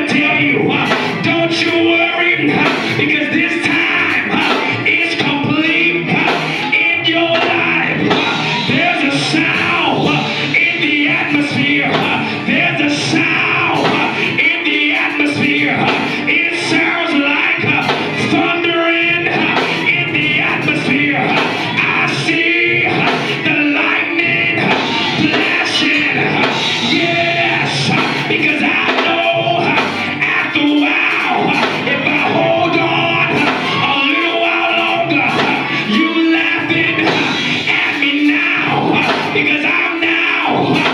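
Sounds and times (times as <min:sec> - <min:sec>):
band with drums playing: 0:00.0 - 0:40.9
voices singing and shouting: 0:00.0 - 0:40.9.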